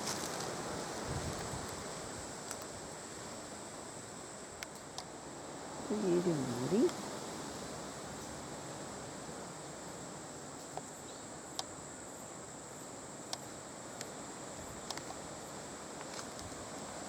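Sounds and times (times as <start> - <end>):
insects droning: 0.0 - 17.0
soft outdoor hiss: 0.0 - 17.0.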